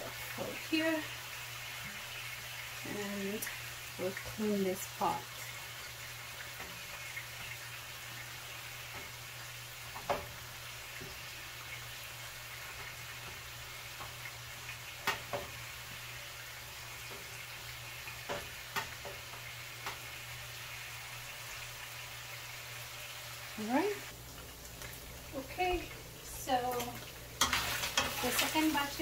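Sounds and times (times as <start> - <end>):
beef sizzling in a pan: 0.0 - 29.0.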